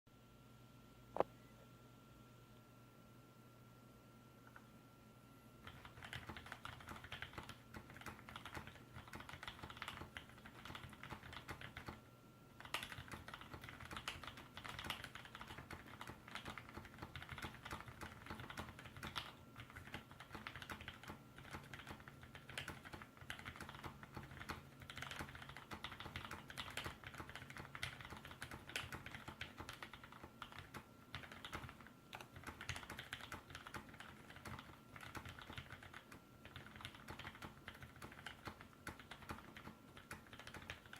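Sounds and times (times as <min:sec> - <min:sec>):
mechanical keyboard typing: 0:05.6 - 0:12.0, 0:12.6 - 0:40.9.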